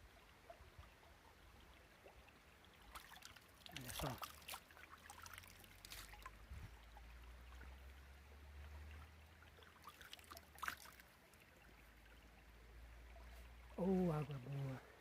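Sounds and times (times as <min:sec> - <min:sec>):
creek water trickling: 0:00.0 - 0:15.0
small water splashes: 0:00.0 - 0:15.0.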